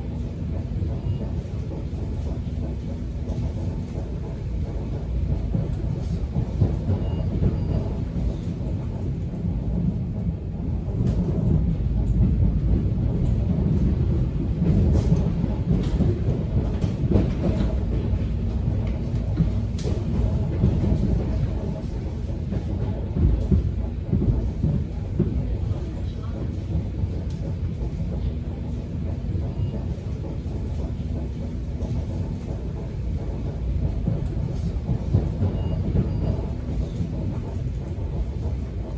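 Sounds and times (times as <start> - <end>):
subway train wheels rumbling: 0.0 - 38.9.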